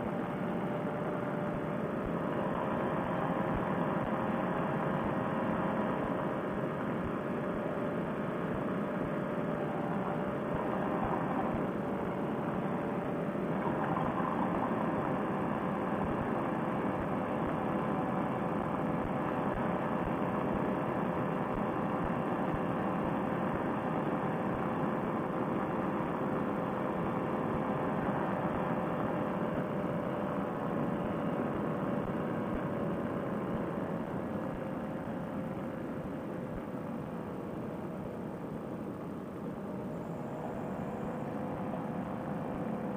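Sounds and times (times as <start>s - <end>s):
paramotor engine and propeller: 0.0s - 42.9s.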